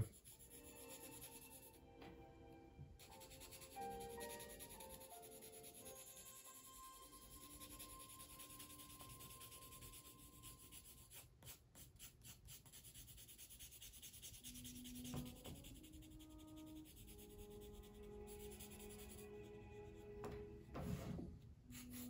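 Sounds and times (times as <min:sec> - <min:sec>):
pencil shading on paper: 0:00.0 - 0:01.9, 0:03.0 - 0:20.0, 0:21.7 - 0:22.0.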